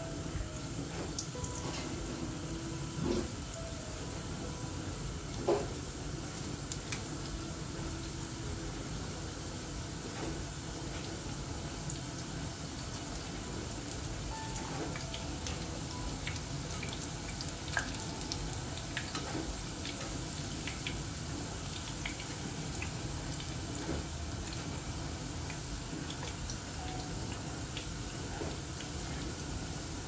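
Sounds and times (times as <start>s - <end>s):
food sizzling in hot oil: 0.7s - 30.0s.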